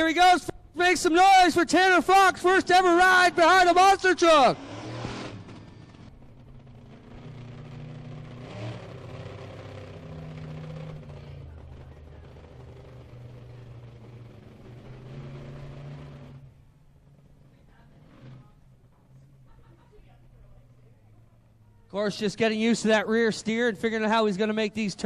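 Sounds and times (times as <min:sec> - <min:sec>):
monster truck engine revving: 0:00.8 - 0:24.1.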